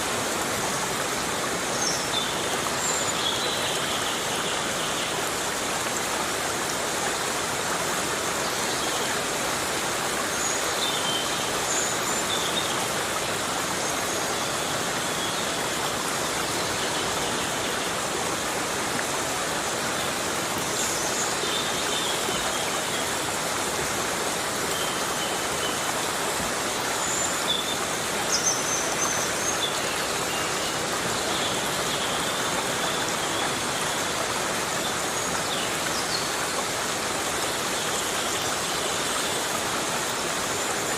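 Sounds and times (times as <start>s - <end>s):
heavy rain on foliage: 0.0s - 40.9s.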